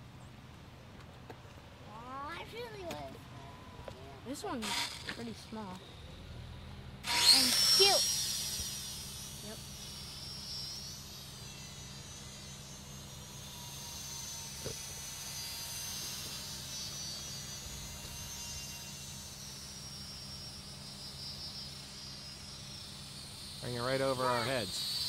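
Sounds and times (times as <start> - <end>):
steady low hum: 0.0 - 25.0
model plane motor whine: 3.4 - 25.0.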